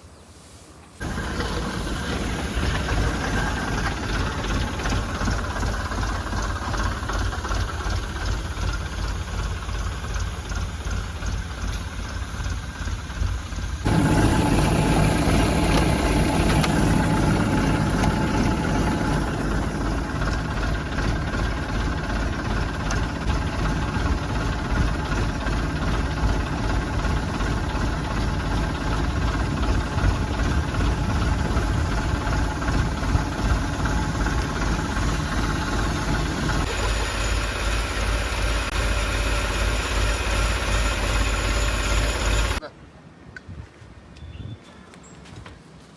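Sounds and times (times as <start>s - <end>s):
tractor engine running: 1.0s - 42.6s.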